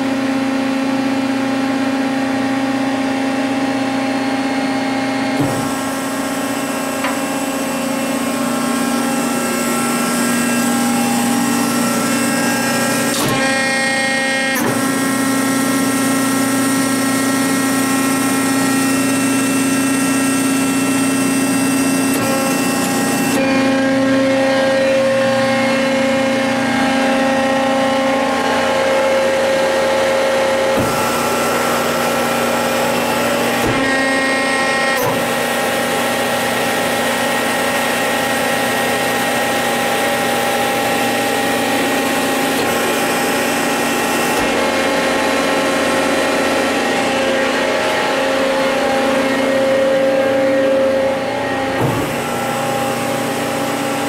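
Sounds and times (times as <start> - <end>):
hydraulic pump motor humming: 0.0 - 54.0.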